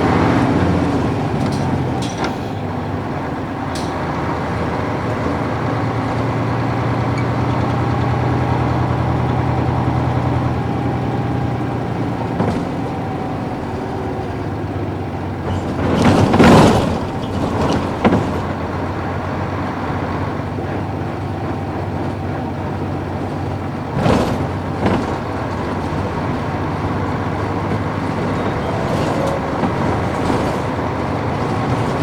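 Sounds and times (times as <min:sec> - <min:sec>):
bus diesel engine drone: 0:00.0 - 0:32.0.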